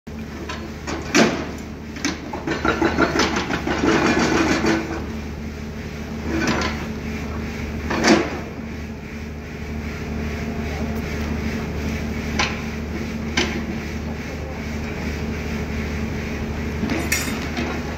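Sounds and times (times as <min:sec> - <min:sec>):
excavator engine running: 0:00.2 - 0:17.9.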